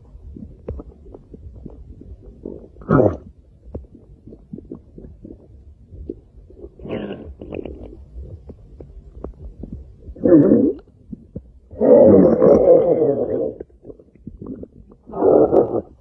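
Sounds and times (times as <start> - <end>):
stomach growling: 0.0 - 16.0.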